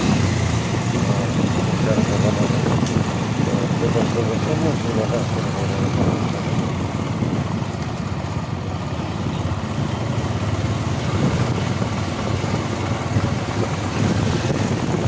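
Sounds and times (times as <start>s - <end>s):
motorcycle engine rumbling: 0.0s - 15.0s
street noise: 0.0s - 15.0s.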